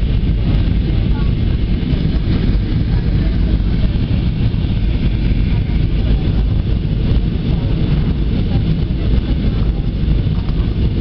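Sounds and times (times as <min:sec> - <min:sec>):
airliner cabin engine rush: 0:00.0 - 0:11.0.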